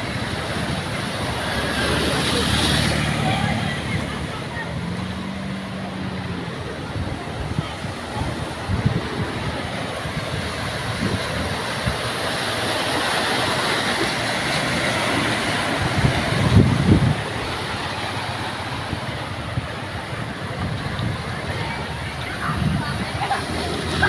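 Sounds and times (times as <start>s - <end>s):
tyres spraying through floodwater: 0.0s - 24.0s.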